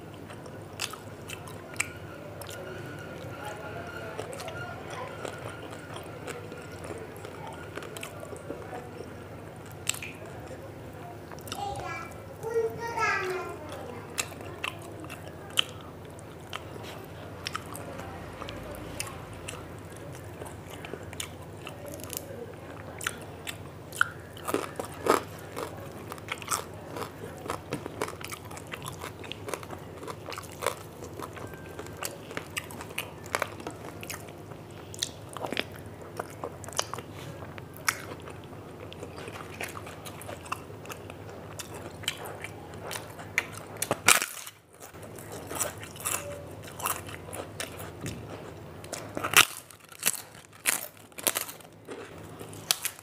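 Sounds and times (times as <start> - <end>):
crunchy chewing of fried food: 0.0 - 53.0.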